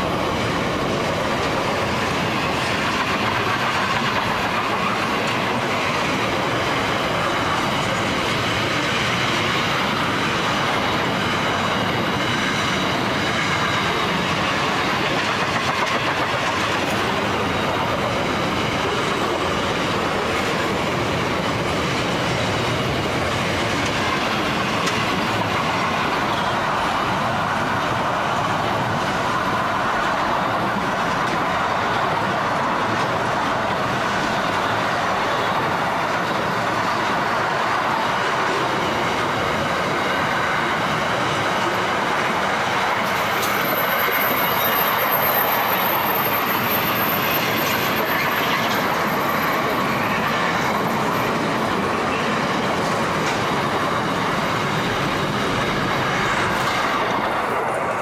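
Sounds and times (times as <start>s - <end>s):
clickety-clack over rail joints: 0.0s - 58.0s
train wheels rumbling and rattling: 0.0s - 58.0s.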